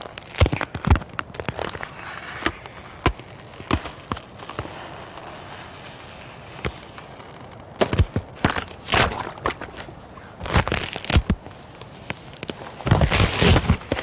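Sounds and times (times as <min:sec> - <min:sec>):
ice cracking: 0:00.0 - 0:14.0.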